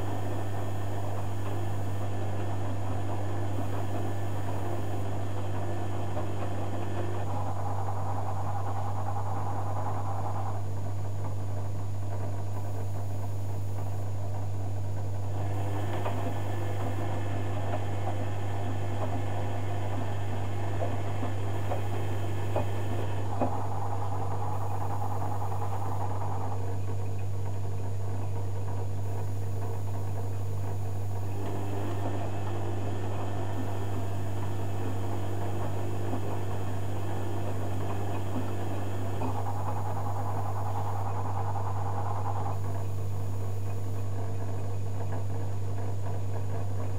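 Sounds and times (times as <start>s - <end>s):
low hum: 0.0s - 46.9s
washing machine drum motor whining: 0.0s - 46.9s.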